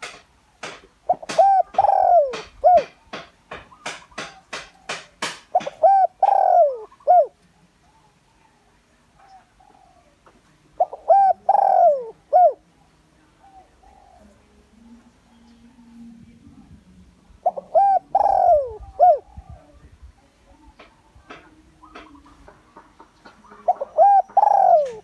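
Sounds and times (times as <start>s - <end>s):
dove cooing: 0.0s - 8.6s, 9.2s - 19.8s, 20.5s - 25.0s.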